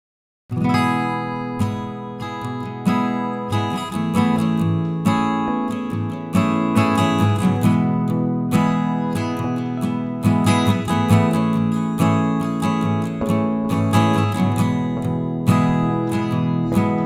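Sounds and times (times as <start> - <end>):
acoustic guitar strumming: 0.5 - 17.0.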